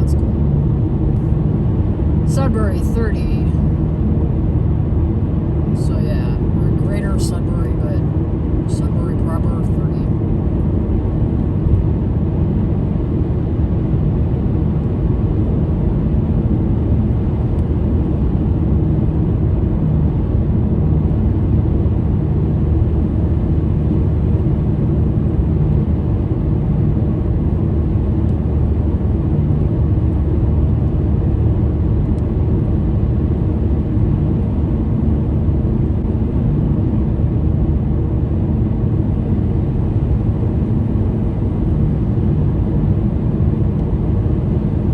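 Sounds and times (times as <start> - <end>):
car road and engine noise: 0.0 - 44.9.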